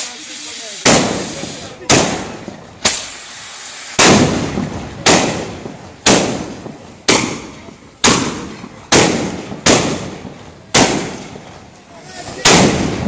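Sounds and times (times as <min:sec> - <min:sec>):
sharp firework mortar bangs: 0:00.0 - 0:13.0.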